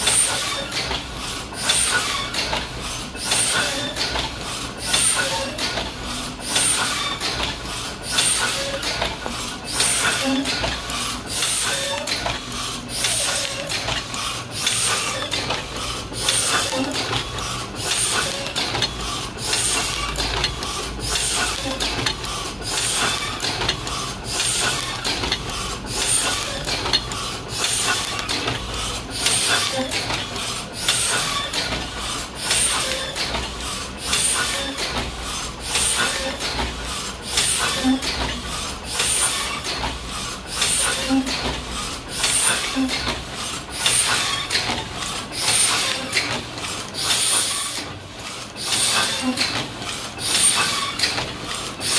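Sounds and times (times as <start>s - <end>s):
printing press clatter: 0.0s - 51.9s.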